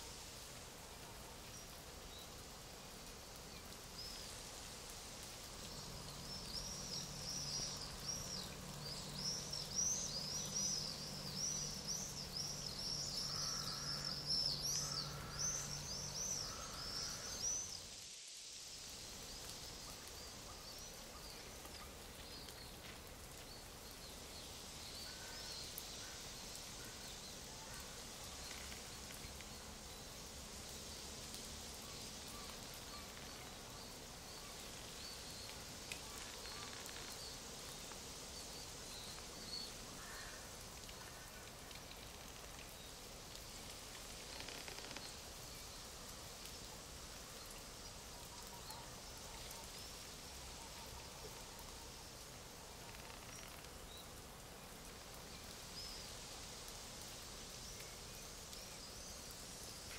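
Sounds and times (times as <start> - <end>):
songbirds twittering and chirping: 0.0 - 59.9
steady outdoor hiss: 0.0 - 59.9.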